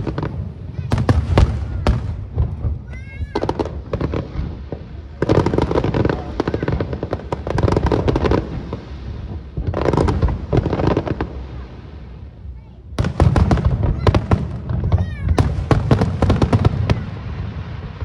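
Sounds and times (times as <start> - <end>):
fireworks bangs: 0.0 - 18.0
fireworks crackling bursts: 0.0 - 18.0.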